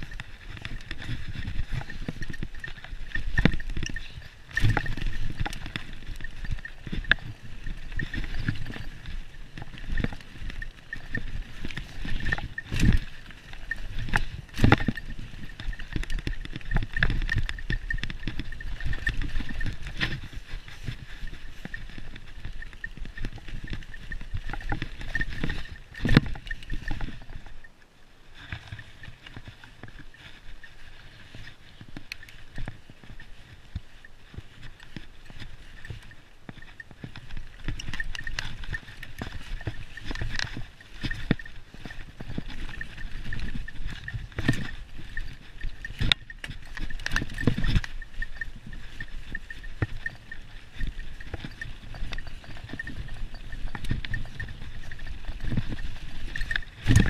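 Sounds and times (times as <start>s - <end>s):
bike rattling over bumps: 0.0s - 27.7s, 28.4s - 57.0s
bike tyres crunching through leaves: 0.0s - 27.7s, 28.3s - 57.0s.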